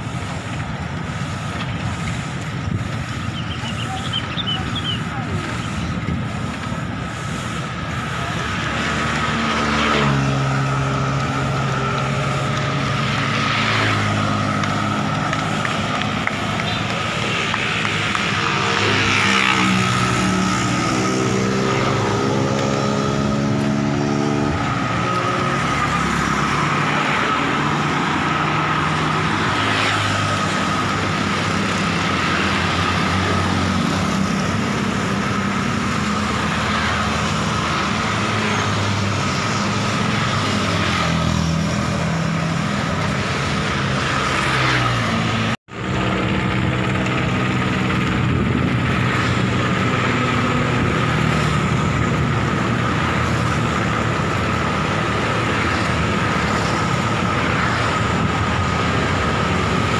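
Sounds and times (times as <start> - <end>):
road noise: 0.0 - 59.9
small motorcycles passing: 0.0 - 59.9.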